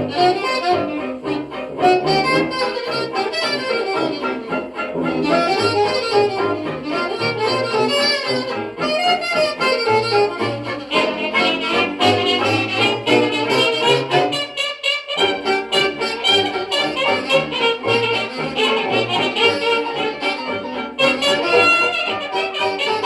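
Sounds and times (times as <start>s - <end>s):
hot jazz band record: 0.0s - 23.0s.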